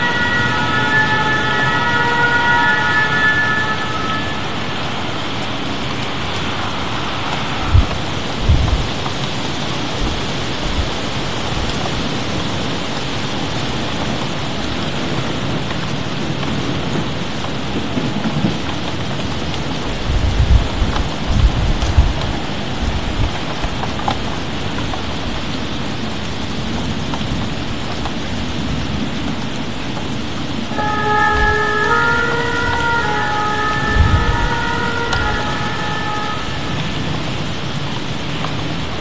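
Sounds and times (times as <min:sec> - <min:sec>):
heavy rain: 0:00.0 - 0:39.0.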